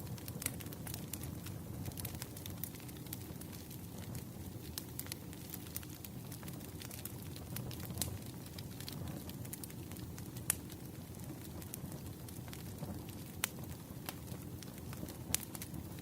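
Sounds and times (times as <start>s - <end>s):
burning logs crackling and popping: 0.0s - 16.0s
low rumble of flames: 0.0s - 16.0s.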